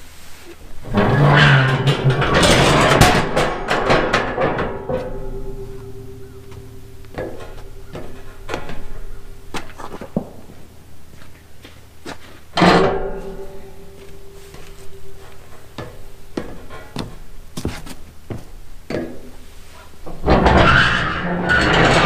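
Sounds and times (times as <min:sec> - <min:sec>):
metal ramps clanking: 0:00.6 - 0:11.2, 0:12.5 - 0:22.0.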